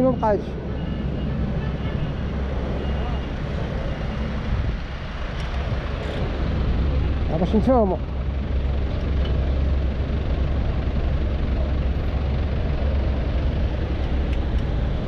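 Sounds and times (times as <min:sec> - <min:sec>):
cars and trucks idling: 0:00.0 - 0:15.0.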